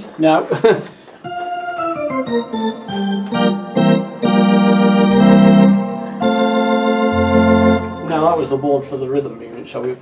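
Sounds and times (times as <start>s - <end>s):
electronic organ playing: 1.2s - 9.6s.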